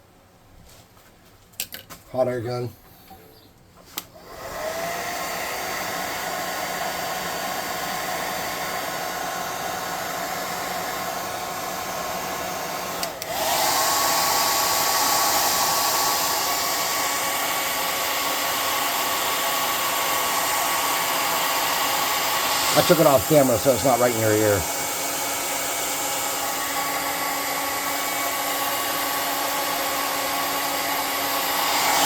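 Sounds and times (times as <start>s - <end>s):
hot air gun whining: 4.2s - 32.0s.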